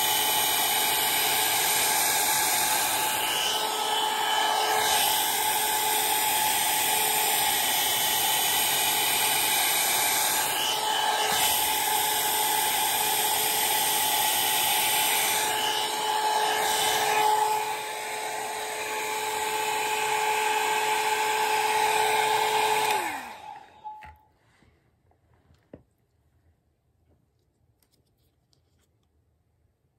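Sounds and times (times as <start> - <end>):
hair dryer blowing: 0.0 - 24.2
hair being brushed: 0.0 - 24.8.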